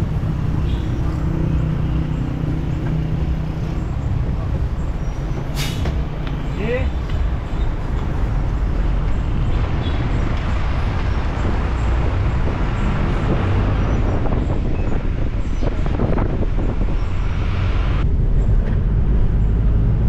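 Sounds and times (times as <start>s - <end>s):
vehicle road rumble: 0.0s - 20.0s
wind buffeting microphone: 0.0s - 20.0s.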